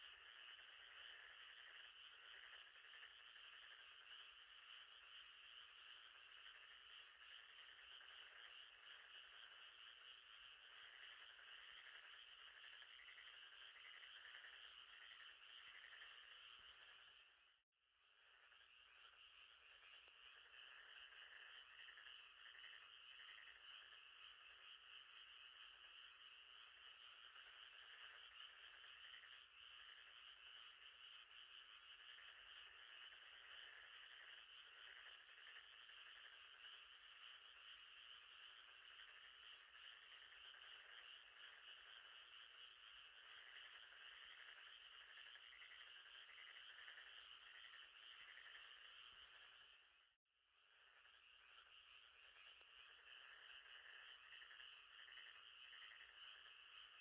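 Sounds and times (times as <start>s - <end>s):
frogs calling: 0.0s - 17.5s, 18.2s - 50.0s, 50.7s - 57.0s
insects trilling: 0.0s - 50.0s, 50.6s - 57.0s.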